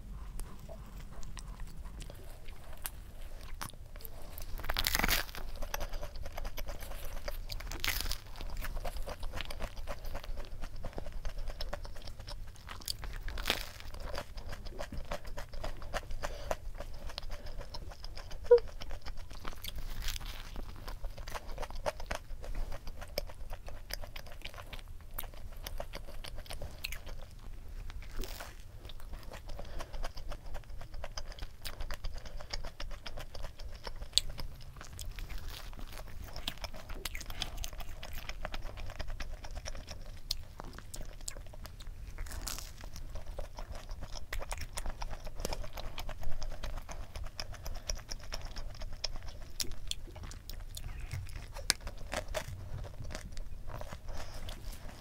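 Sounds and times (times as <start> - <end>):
person chewing bread roll: 0.0 - 55.0
wet mouth sounds: 0.0 - 55.0.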